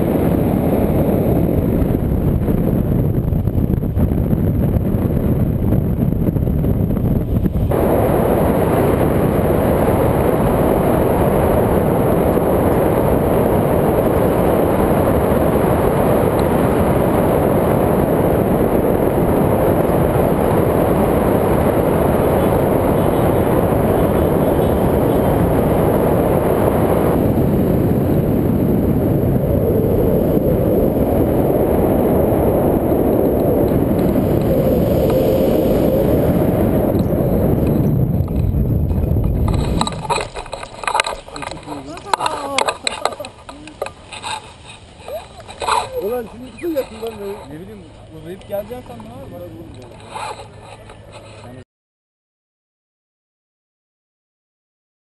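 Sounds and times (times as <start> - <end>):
wind rushing over microphone: 0.0 - 51.6.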